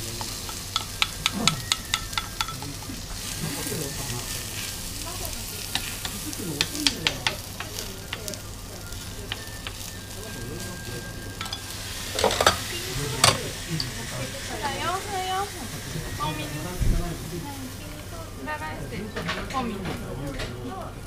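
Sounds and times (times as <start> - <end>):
batter sizzling on a griddle: 0.0 - 21.0.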